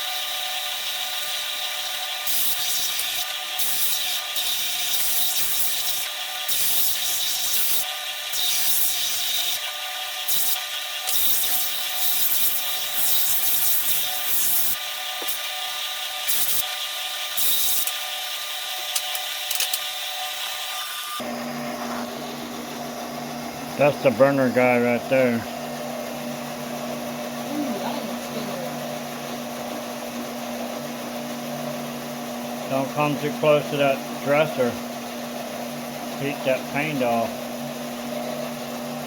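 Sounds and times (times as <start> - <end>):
power tool sanding wood: 0.0 - 39.0.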